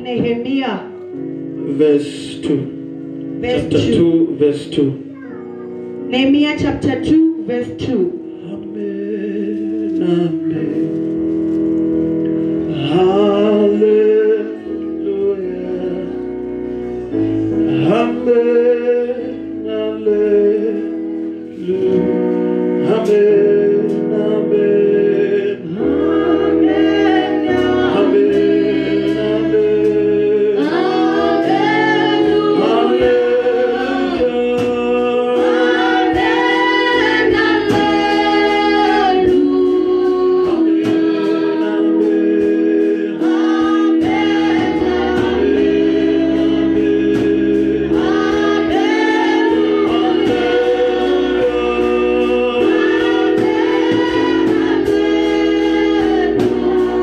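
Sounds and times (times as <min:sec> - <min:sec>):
voices singing gospel: 0:00.0 - 0:05.1, 0:06.0 - 0:57.0
held instrumental chords: 0:00.0 - 0:57.0.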